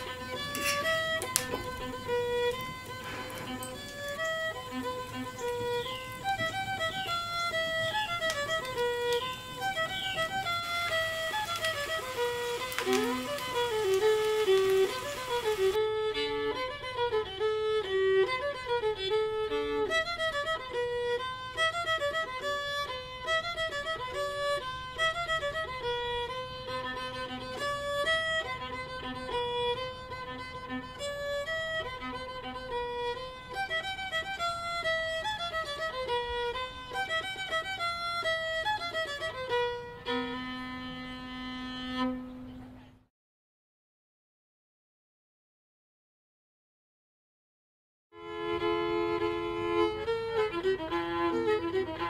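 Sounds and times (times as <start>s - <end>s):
solo fiddle melody: 0.0s - 42.5s, 48.2s - 52.0s.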